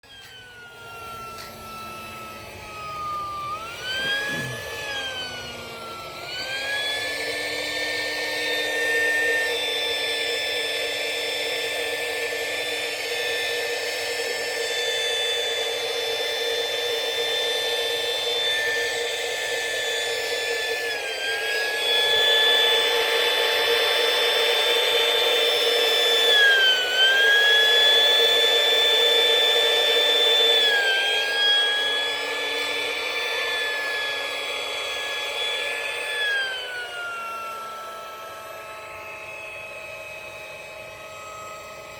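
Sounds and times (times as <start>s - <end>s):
electric air pump whining: 0.0s - 41.9s.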